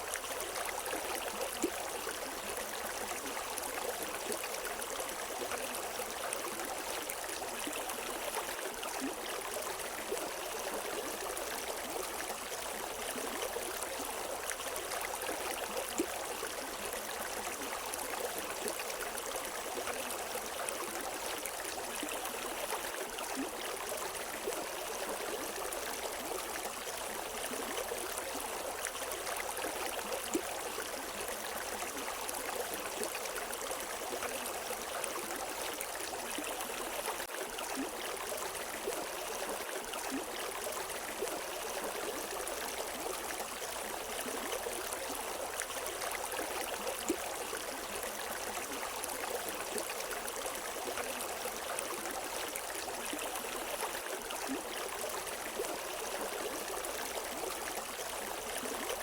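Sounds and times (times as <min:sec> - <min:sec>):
water trickles and drips: 0:00.0 - 0:59.0.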